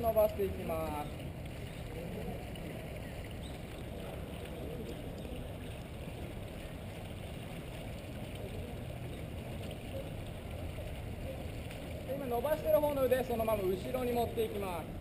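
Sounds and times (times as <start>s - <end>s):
faint distant voices: 0.0s - 15.0s
low outdoor rumble: 0.0s - 15.0s.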